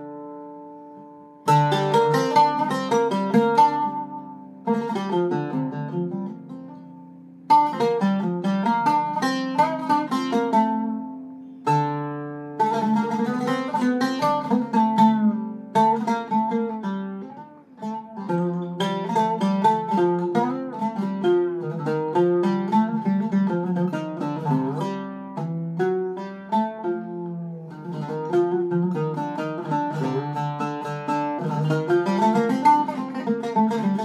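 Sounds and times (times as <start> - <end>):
oud picked with plectrum: 0.0 - 34.0.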